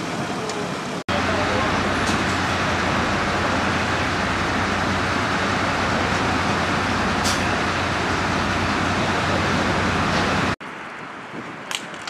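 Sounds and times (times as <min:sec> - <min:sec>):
engine droning: 0:00.0 - 0:10.7.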